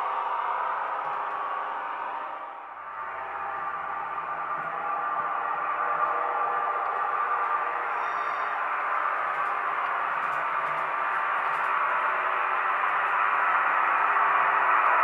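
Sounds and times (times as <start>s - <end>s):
model railcar diesel engine drone: 0.0s - 15.0s.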